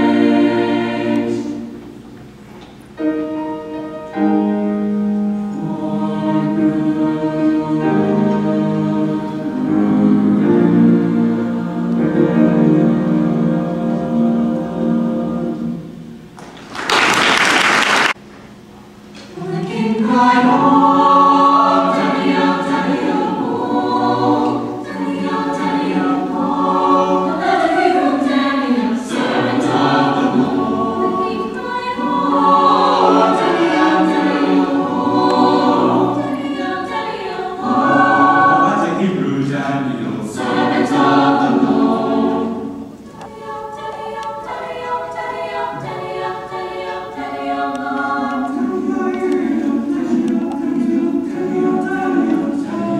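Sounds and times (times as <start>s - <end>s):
choir singing in parts: 0.0s - 2.2s, 3.0s - 18.2s, 19.2s - 52.9s.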